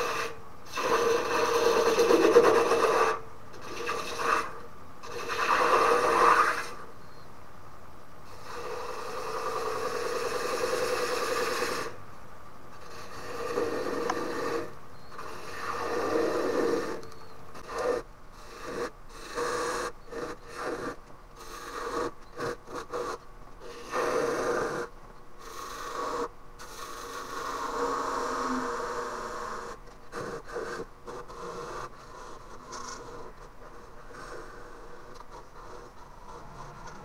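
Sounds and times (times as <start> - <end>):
faint lathe hum: 0.0 - 37.0.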